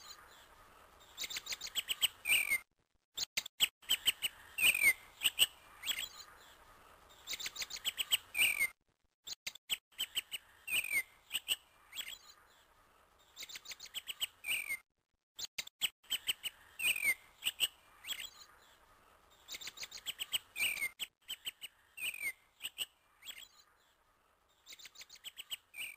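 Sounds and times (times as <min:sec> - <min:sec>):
birds chirping and whistling: 0:00.0 - 0:02.6, 0:03.2 - 0:08.7, 0:10.0 - 0:12.5, 0:13.3 - 0:14.8, 0:15.8 - 0:23.7, 0:24.6 - 0:25.9.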